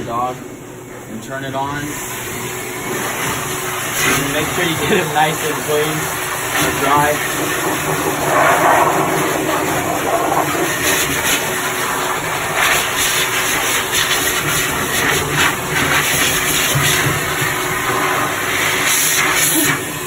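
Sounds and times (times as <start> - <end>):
blower dryer rushing air: 0.0 - 20.0.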